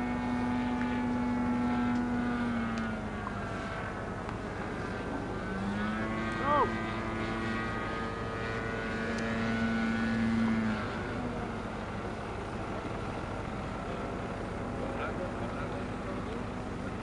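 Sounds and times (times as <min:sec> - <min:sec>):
model airplane engine droning: 0:00.0 - 0:17.0.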